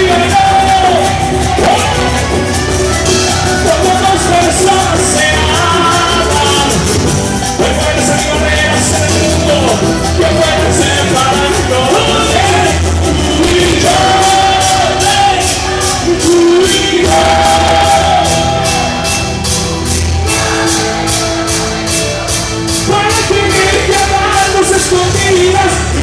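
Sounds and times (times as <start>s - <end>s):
band playing: 0.0s - 26.0s
person singing: 0.0s - 26.0s.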